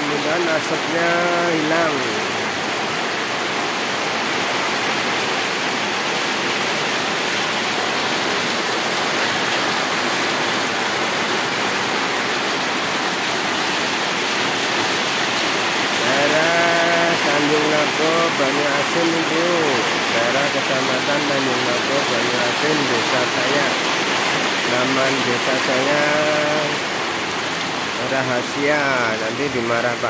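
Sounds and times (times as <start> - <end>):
heavy rain on ground and roof: 0.0 - 30.0.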